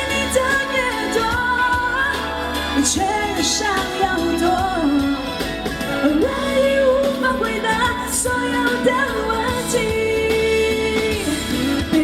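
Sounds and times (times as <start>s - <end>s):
musical accompaniment: 0.0s - 12.0s
woman singing pop ballad: 0.0s - 12.0s.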